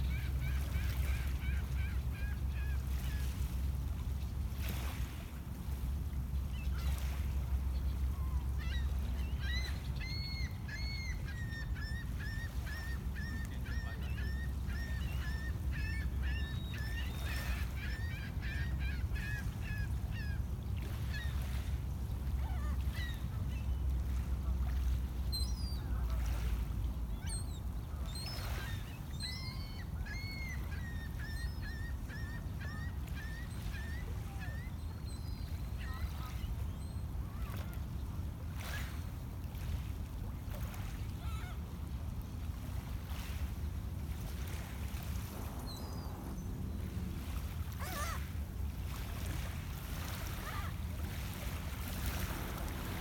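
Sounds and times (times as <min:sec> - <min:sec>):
gulls calling: 0:00.0 - 0:03.5, 0:06.5 - 0:21.7, 0:22.3 - 0:38.0, 0:44.3 - 0:53.0.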